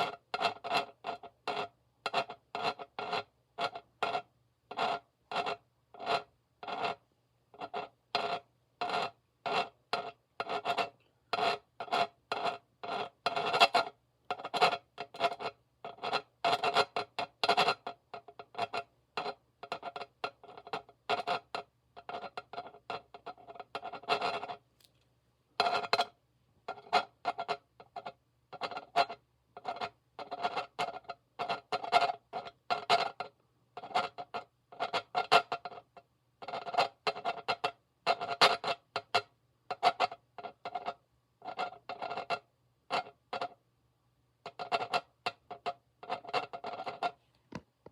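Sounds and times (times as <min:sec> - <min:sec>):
scratching with faint ringing: 0:00.0 - 0:24.9, 0:25.6 - 0:43.6, 0:44.5 - 0:47.3.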